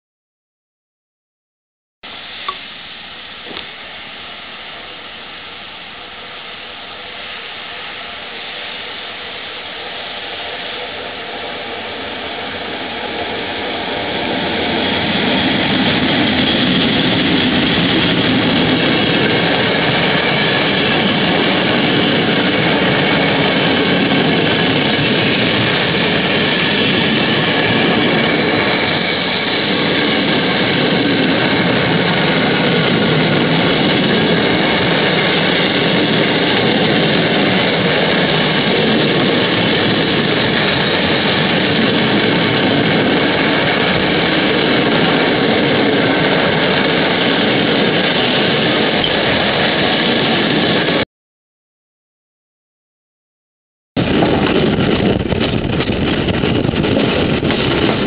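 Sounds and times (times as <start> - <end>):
heavy engine running: 2.0 - 51.0, 54.0 - 58.0.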